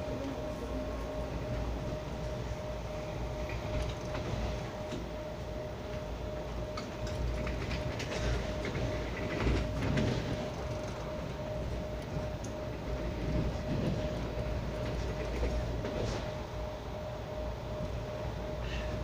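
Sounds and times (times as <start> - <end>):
steady hum: 0.0 - 19.0
train wheels rumbling on rail: 0.0 - 19.0.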